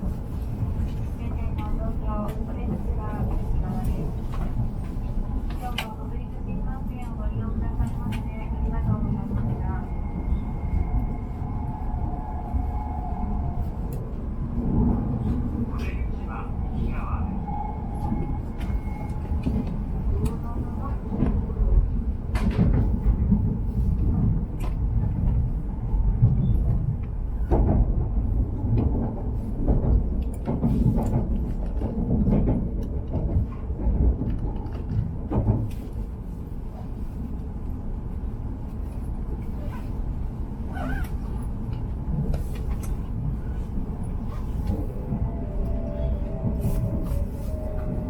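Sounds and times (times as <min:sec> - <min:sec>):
train rumbling: 0:00.0 - 0:48.0.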